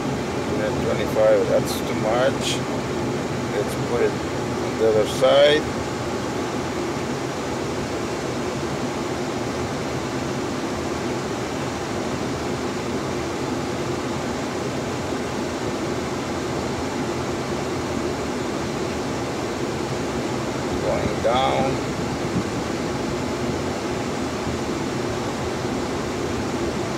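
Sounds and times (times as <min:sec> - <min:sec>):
car heater blower air rush: 0:00.0 - 0:26.9.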